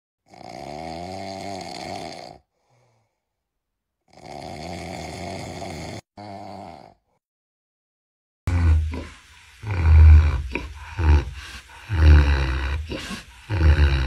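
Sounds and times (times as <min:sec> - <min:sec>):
person snoring: 0:00.3 - 0:03.2, 0:04.1 - 0:07.2, 0:08.5 - 0:14.0.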